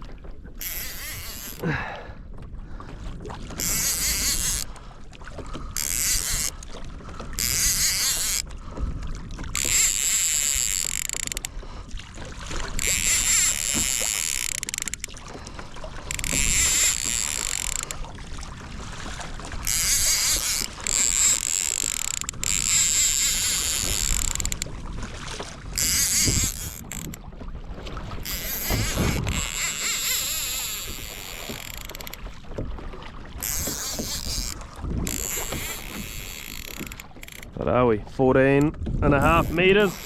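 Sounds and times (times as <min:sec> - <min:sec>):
water splashing along a hull: 0:00.0 - 0:40.0.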